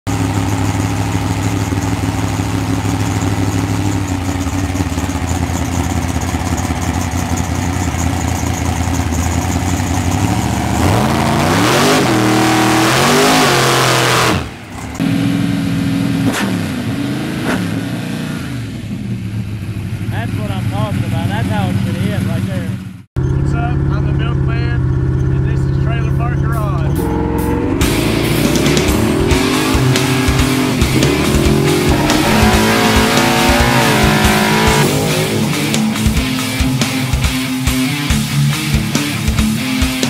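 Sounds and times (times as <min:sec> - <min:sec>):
hot rod engine idling and revving: 0:00.0 - 0:40.0.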